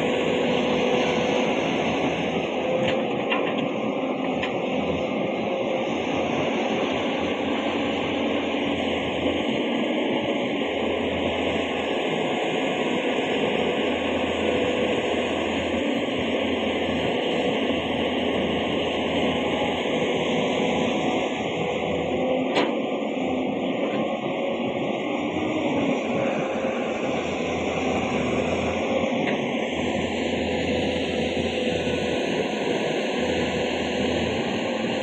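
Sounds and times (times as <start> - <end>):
heavy vehicle engines running: 0.0 - 35.0.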